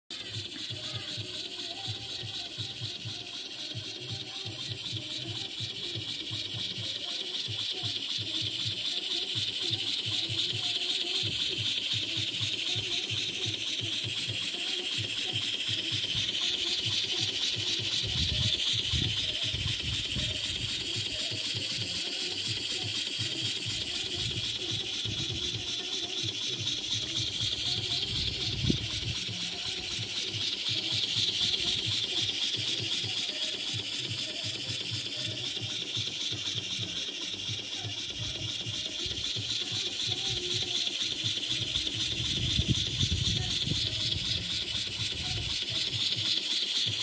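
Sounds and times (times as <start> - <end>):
model steam engine chuffing: 0.1 - 47.0
steam hiss: 0.1 - 47.0.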